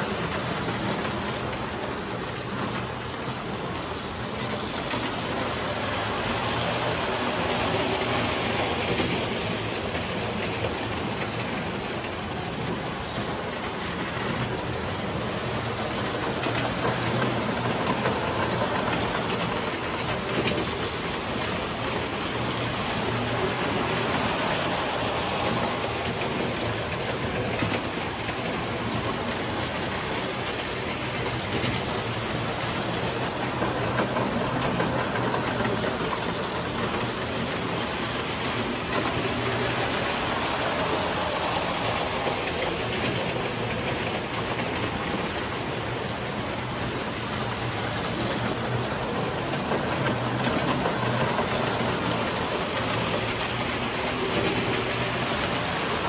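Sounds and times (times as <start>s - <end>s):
toy train wheels rattling on rails: 0.0s - 56.0s.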